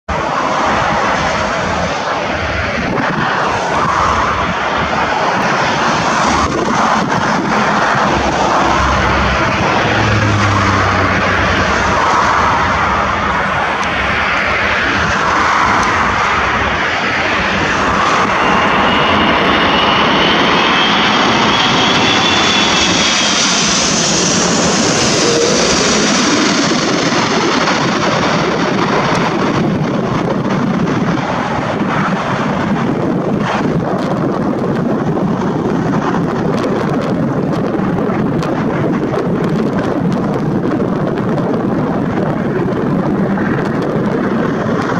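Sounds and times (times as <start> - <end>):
jet engines roaring with high whine: 0.1 - 44.9.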